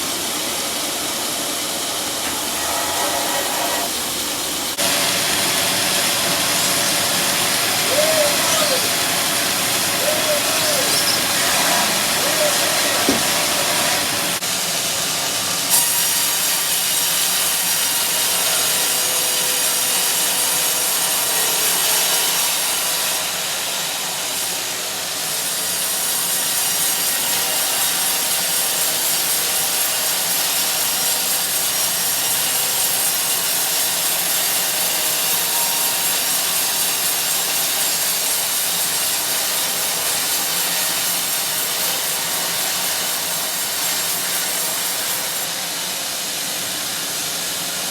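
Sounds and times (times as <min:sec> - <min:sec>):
saw cutting through log: 0:00.0 - 0:14.4, 0:15.7 - 0:45.8.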